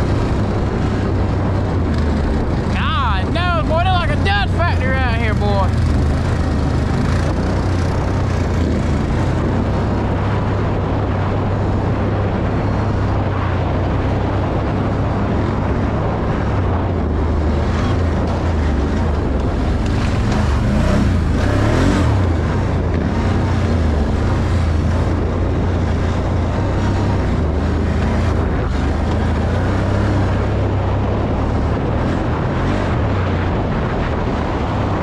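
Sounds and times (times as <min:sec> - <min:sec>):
atv engine running: 0:00.0 - 0:35.0
wind on microphone: 0:00.0 - 0:35.0.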